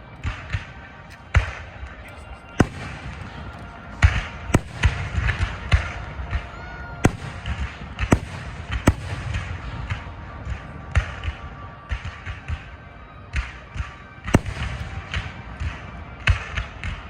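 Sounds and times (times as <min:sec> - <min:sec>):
fireworks bangs and pops: 0:00.0 - 0:17.0
fireworks crackling: 0:00.0 - 0:17.0.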